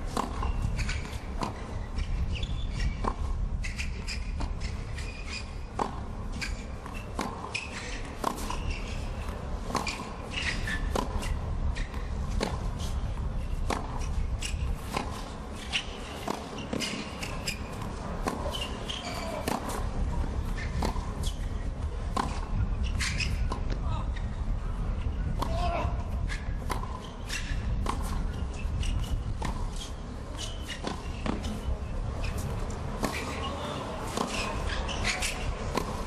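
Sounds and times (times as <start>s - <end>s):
shoes squeaking on court: 0.0s - 36.0s
racket striking tennis ball: 0.1s - 23.8s, 25.4s - 36.0s.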